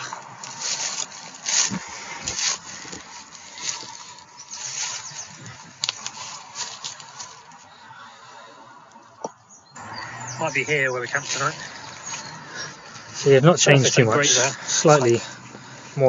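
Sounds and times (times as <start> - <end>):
leaves and twigs rustling: 0.0 - 9.0, 9.8 - 16.0.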